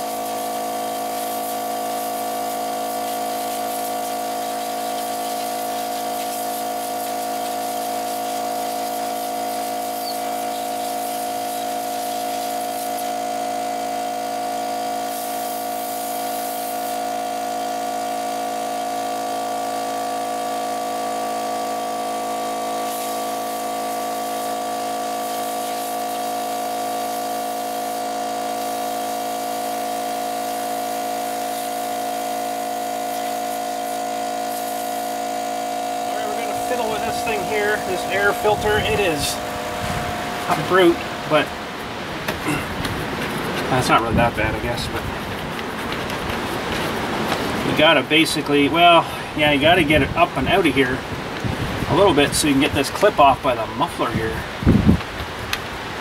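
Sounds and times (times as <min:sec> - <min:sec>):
air compressor humming: 0:00.0 - 0:56.0.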